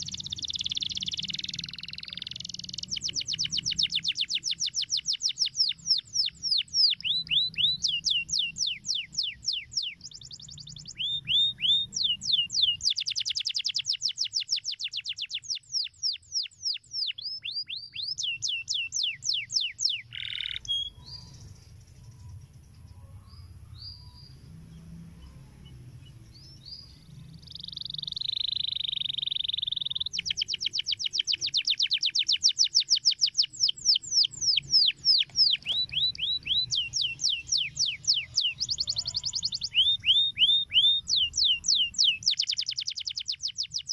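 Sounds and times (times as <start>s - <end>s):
canary singing trills: 0.0s - 43.9s.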